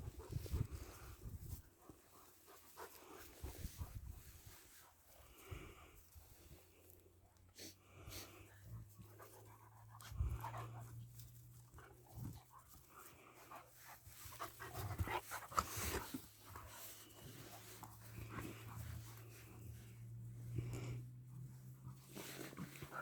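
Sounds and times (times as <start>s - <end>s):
dog panting: 0.0s - 4.3s, 8.2s - 23.0s.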